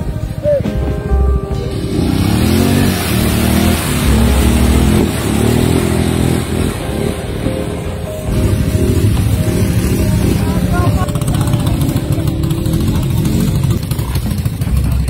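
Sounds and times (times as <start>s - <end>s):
quad bike engine revving: 1.6s - 15.0s.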